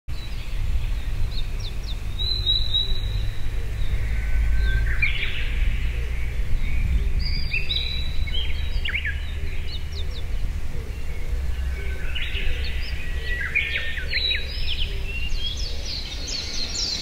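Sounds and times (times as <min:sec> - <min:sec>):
low rumble: 0:00.1 - 0:16.9
bird singing whistled notes: 0:00.1 - 0:17.0.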